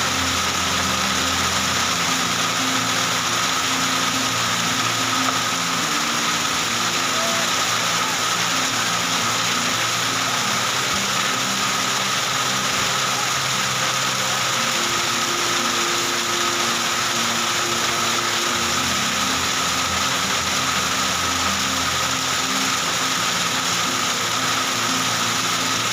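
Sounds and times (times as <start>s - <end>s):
heavy rain and hail pelting ground: 0.0s - 25.9s.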